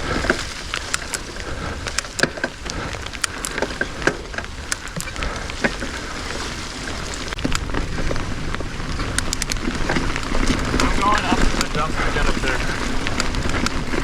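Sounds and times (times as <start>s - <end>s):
clicks and knocks over bumps: 0.0s - 14.0s
tyres rolling on dirt trail: 0.0s - 14.0s.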